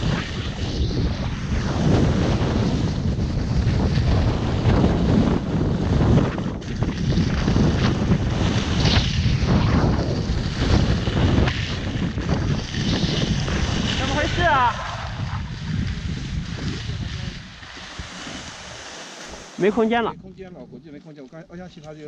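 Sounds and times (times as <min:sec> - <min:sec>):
wind blowing across microphone: 0:00.0 - 0:22.0
skis scraping on snow: 0:01.7 - 0:20.1.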